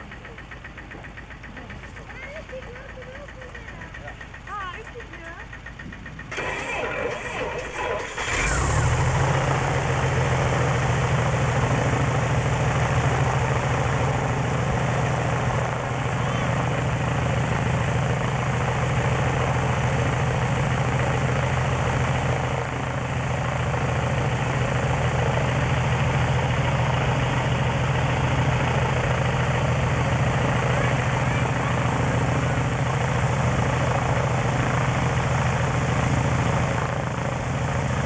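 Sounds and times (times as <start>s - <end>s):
propeller plane engine idling: 0.0s - 38.0s.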